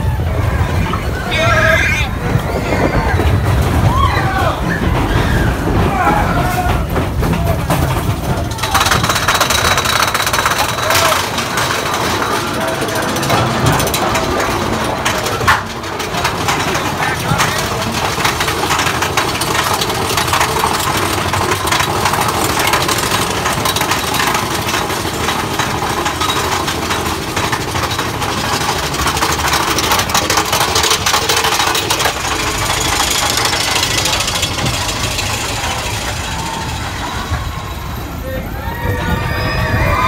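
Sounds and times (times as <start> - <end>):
roller coaster cars rattling: 0.0 - 40.0.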